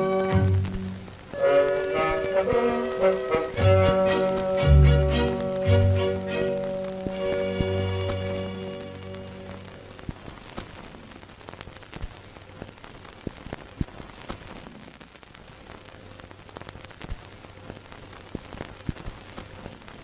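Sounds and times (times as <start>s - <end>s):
film crackle clicks and pops: 0.0s - 20.0s
steady hiss: 0.0s - 20.0s.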